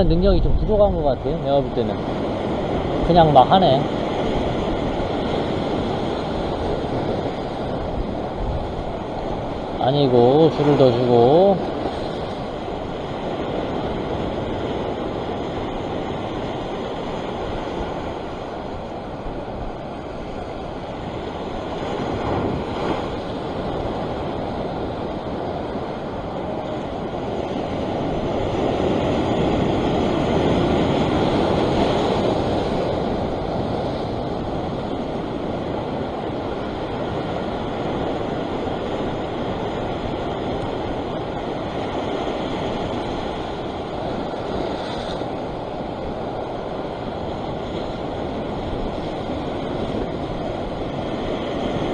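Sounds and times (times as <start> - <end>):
surf breaking over rocks: 0.0 - 51.9
wind on microphone: 0.0 - 51.9.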